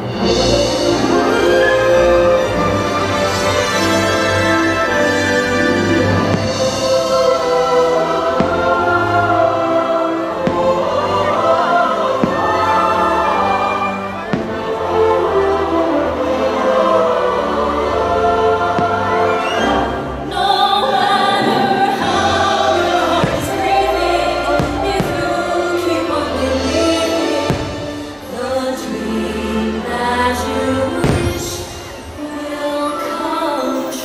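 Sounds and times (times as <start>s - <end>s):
choir singing: 0.0s - 34.0s
orchestral music: 0.0s - 34.0s.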